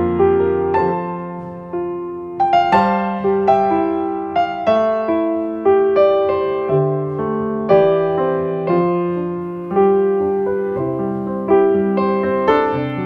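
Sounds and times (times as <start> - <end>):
gentle piano tune: 0.0 - 13.0.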